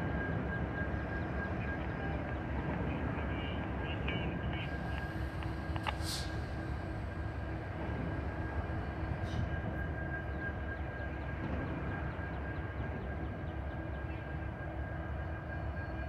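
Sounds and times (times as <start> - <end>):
distant locomotives idling: 0.0 - 16.0.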